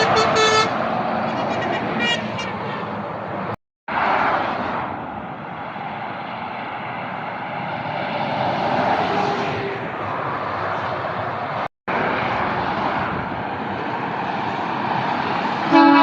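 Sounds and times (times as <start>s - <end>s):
road traffic rushing: 0.0s - 16.0s
vehicle passing by: 0.0s - 16.0s.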